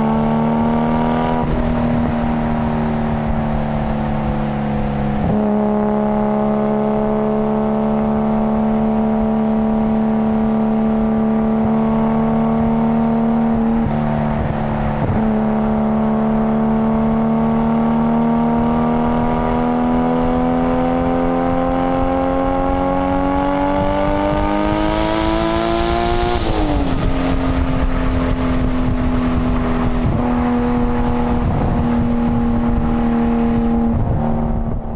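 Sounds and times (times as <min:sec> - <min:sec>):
car engine and exhaust revving: 0:00.0 - 0:34.9.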